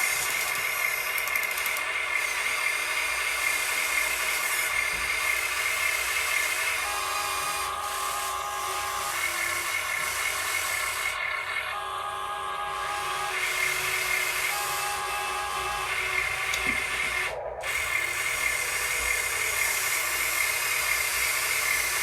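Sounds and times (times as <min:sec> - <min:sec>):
small electric motors whining: 0:00.0 - 0:22.0.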